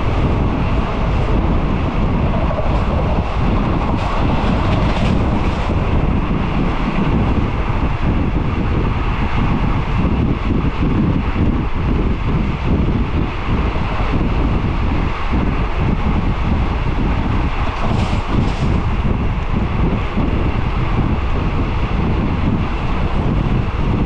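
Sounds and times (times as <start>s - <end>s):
train rumbling on track: 0.0s - 24.0s
wind buffeting microphone: 0.0s - 24.0s.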